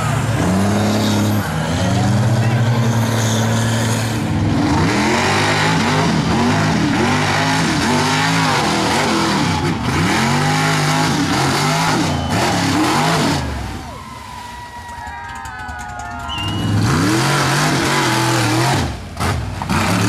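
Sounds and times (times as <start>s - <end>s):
truck engine revving hard: 0.0s - 14.4s, 16.3s - 20.0s.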